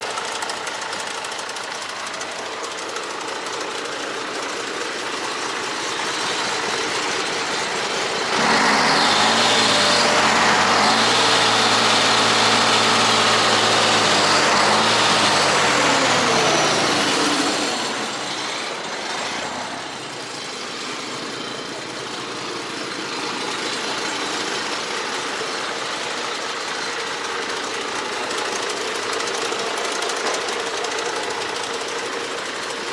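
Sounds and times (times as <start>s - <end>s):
diesel truck engine idling and revving: 0.0s - 32.9s.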